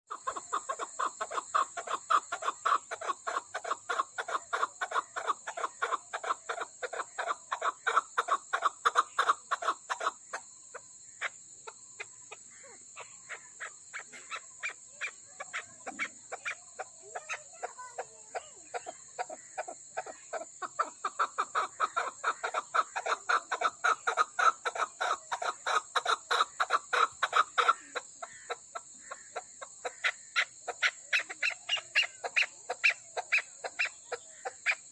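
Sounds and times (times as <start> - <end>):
partridge clucking calls: 0.1 - 34.9.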